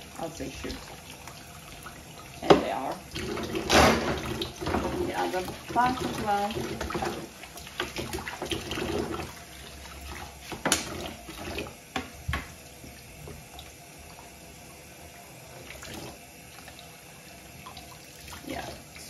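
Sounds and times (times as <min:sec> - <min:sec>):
tap running water: 0:00.0 - 0:19.0.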